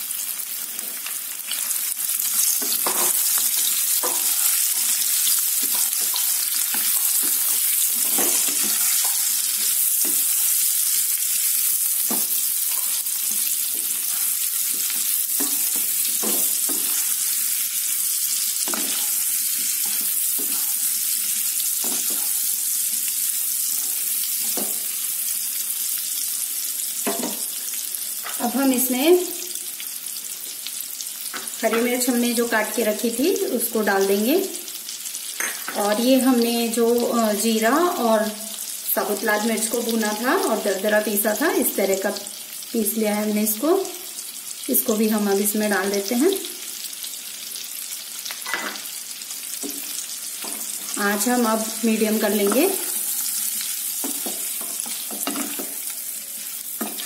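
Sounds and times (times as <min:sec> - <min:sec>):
potatoes sizzling in oil: 0:00.0 - 0:57.0.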